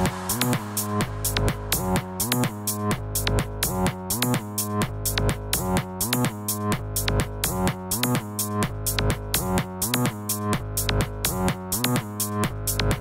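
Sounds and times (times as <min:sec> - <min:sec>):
electronic music with sliding bass: 0:00.0 - 0:13.0.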